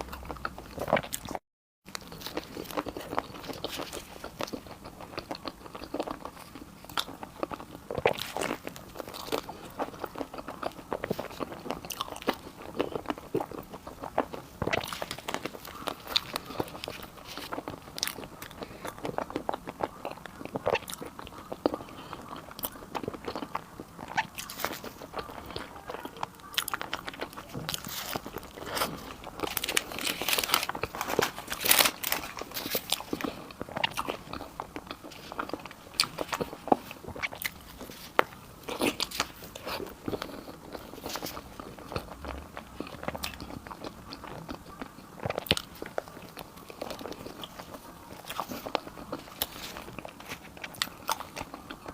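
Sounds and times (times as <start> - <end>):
crunchy chewing: 0.0 - 51.9.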